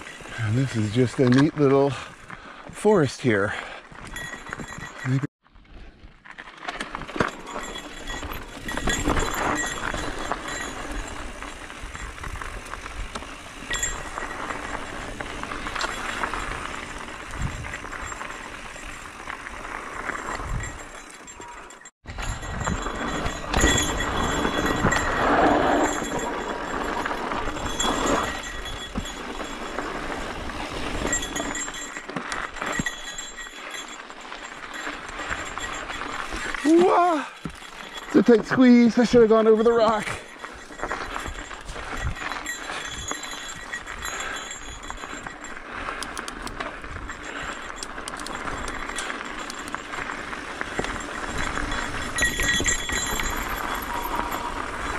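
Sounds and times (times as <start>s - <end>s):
bike tyres on dirt trail: 0.0s - 54.9s
bike rattling over bumps: 3.5s - 54.9s.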